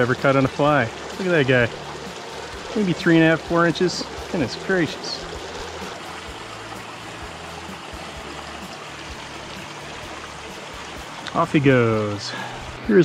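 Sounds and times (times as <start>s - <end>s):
creek water flowing over rocks: 0.0s - 13.0s.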